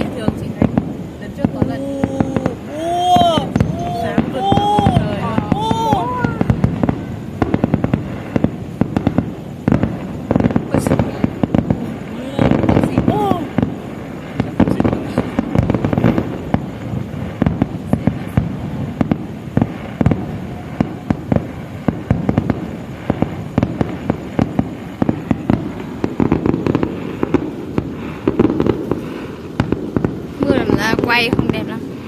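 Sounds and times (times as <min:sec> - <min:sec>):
firework shells bursting: 0:00.0 - 0:32.0
rumble of overlapping blasts: 0:00.0 - 0:32.0.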